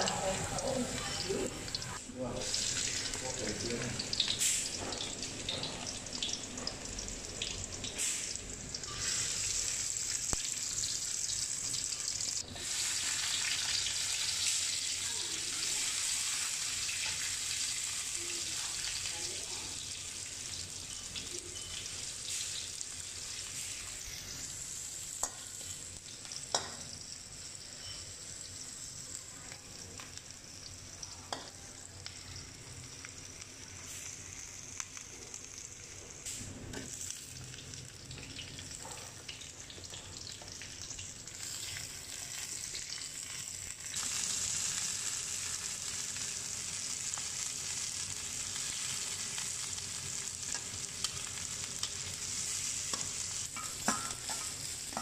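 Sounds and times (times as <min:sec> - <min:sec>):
garlic sizzling in hot oil: 0:00.0 - 0:55.0.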